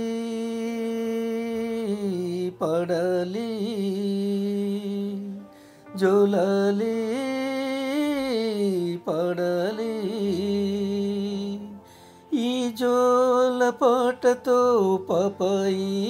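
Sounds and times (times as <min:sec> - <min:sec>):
man singing a wordless lullaby: 0:00.0 - 0:16.0.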